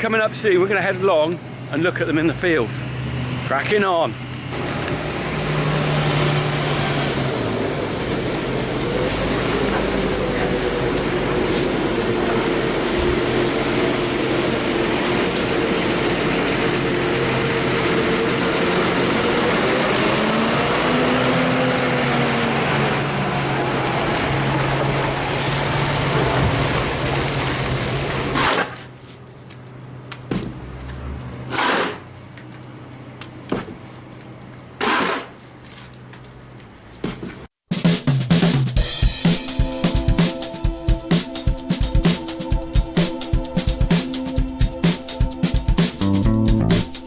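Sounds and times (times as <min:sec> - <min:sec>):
vehicle engine running: 0:00.0 - 0:34.8, 0:39.0 - 0:47.0.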